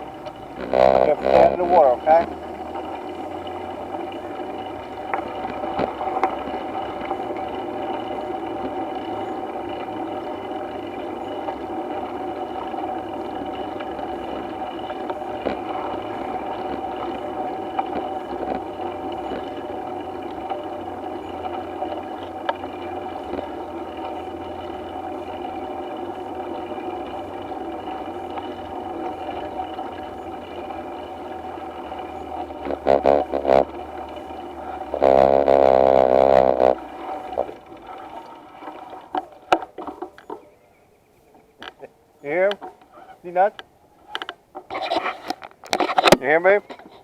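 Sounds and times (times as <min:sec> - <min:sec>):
mechanical drone: 0:00.0 - 0:39.6.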